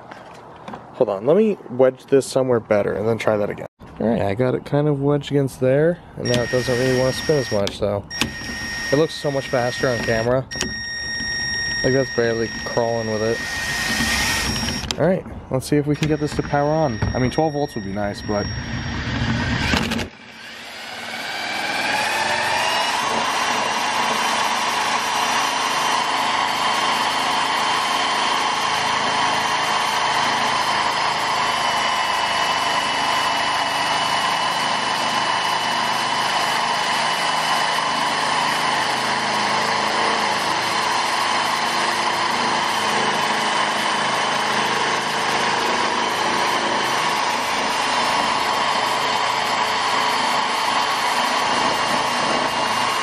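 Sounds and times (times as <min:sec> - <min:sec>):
power drill motor whine: 0:06.2 - 0:15.0, 0:15.8 - 0:53.0.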